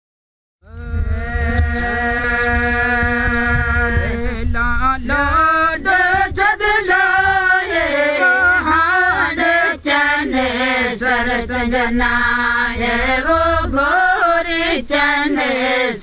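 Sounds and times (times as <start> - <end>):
woman singing unaccompanied: 0.9 - 16.0.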